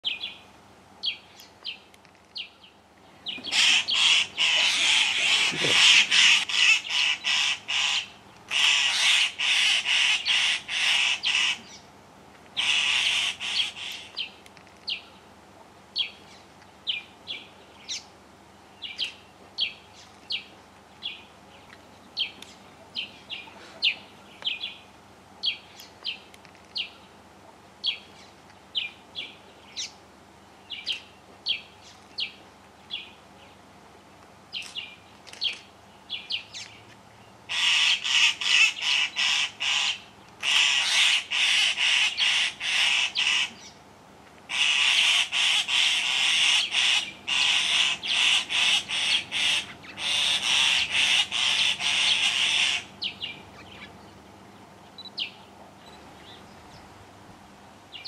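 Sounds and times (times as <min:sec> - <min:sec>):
birds alarm calls: 0:00.0 - 0:11.9, 0:12.5 - 0:15.2, 0:16.0 - 0:27.1, 0:34.5 - 0:43.8, 0:44.4 - 0:57.0.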